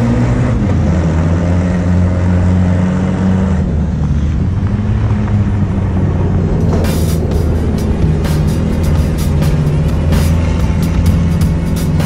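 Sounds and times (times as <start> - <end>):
pickup engine running hard: 0.0 - 12.0.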